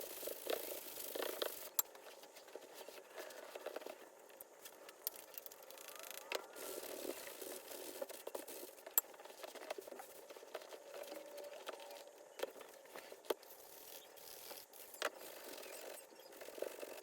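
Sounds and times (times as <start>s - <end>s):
leather glove rubbing and rustling: 0.0s - 17.0s.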